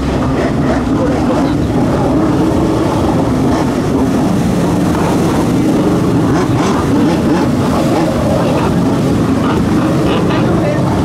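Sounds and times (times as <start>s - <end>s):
jet ski engine running hard: 0.0s - 11.0s.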